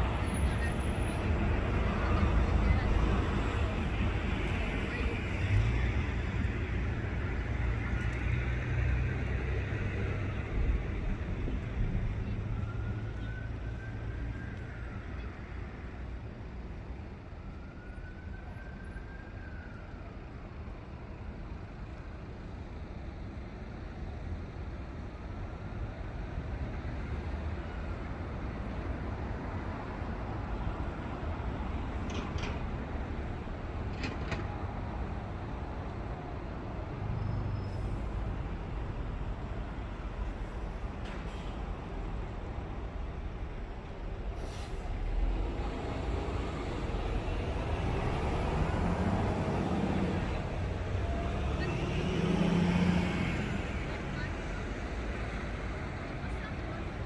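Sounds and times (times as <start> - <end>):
urban background rumble: 0.0 - 57.0.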